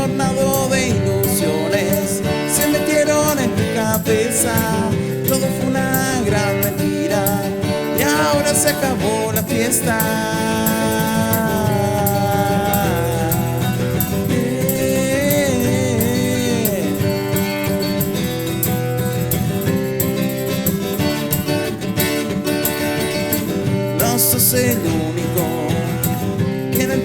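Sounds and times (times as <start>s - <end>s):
acoustic guitar accompaniment: 0.0s - 27.0s.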